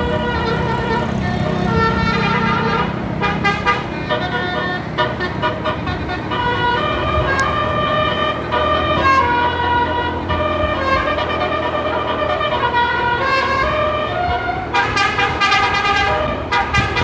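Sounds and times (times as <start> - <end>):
bus air horn playing melody: 0.0 - 17.0
low rumble of bus: 0.0 - 17.0.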